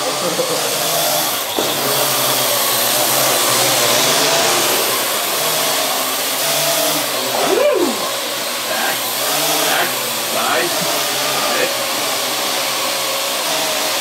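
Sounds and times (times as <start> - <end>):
quadcopter rotors buzzing: 0.0 - 14.0.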